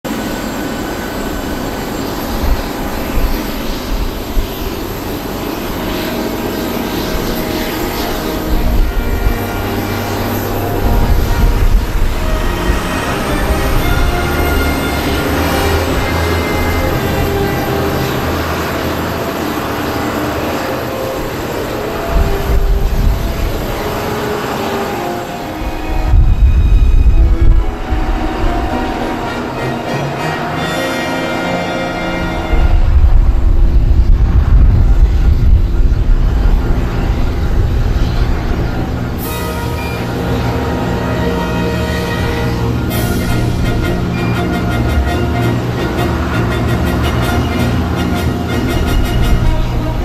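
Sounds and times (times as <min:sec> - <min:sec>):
wind buffeting microphone: 0:00.0 - 0:30.2, 0:31.9 - 0:41.1, 0:42.2 - 0:50.0
jet engines roaring: 0:00.0 - 0:50.0.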